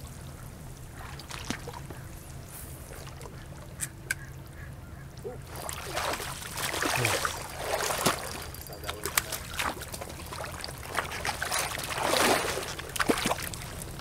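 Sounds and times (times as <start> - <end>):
fish splashing and thrashing in water: 0.8 - 3.8, 5.4 - 14.0.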